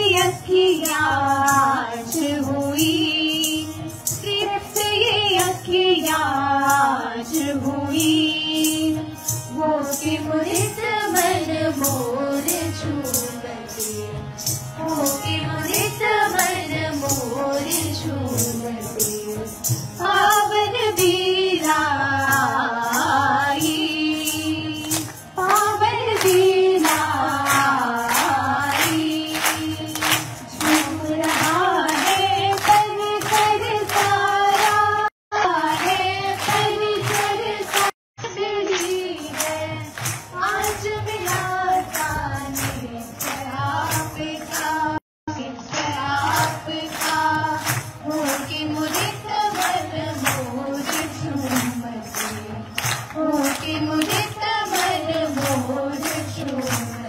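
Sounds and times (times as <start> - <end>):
tambourine jingling: 0.0 - 35.1, 35.7 - 45.0, 45.6 - 57.0
percussion beat: 0.0 - 57.0
women singing: 0.0 - 57.0.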